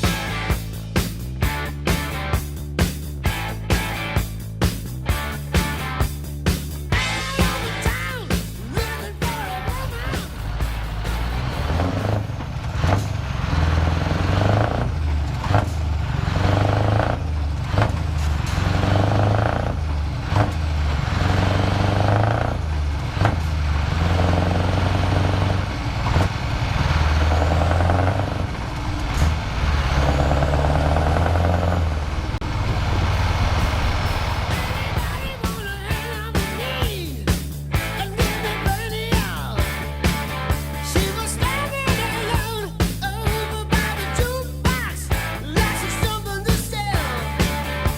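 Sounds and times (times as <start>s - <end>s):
truck engine accelerating through gears: 0.0s - 47.9s.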